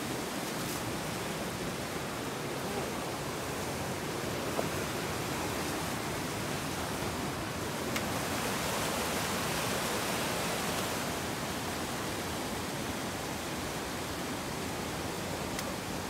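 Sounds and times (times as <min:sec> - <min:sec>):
rushing stream water: 0:00.0 - 0:16.0.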